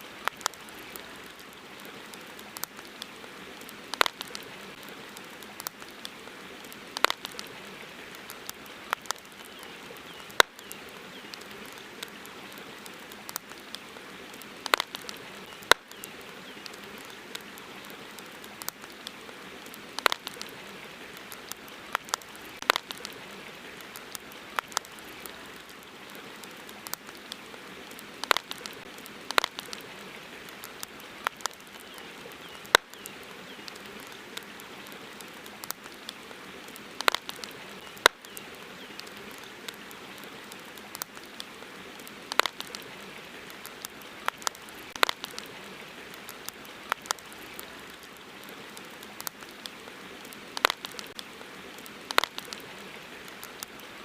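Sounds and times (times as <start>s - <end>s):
campfire crackling and popping: 0.0s - 54.0s
soft fire hiss: 0.0s - 54.0s.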